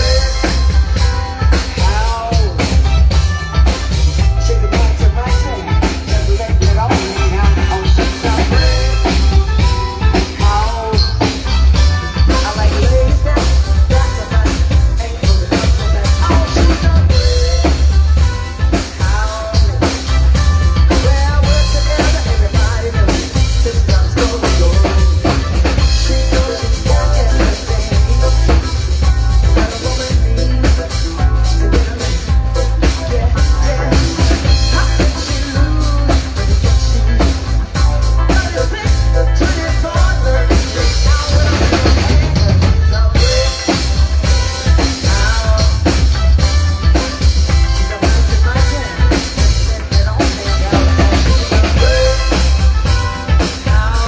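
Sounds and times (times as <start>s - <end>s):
drum kit: 0.0s - 54.0s
heavy bass: 0.0s - 54.0s
live band playing: 0.0s - 54.0s.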